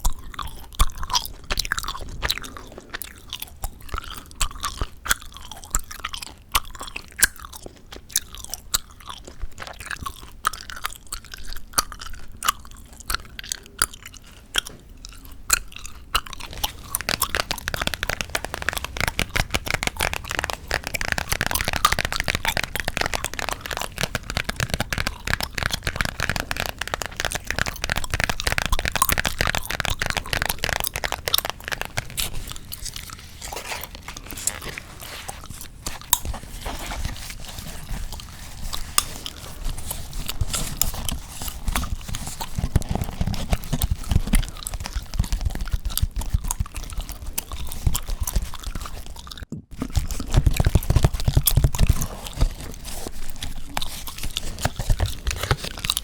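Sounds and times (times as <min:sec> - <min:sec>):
gum chewing mouth clicks: 0:00.0 - 0:56.0.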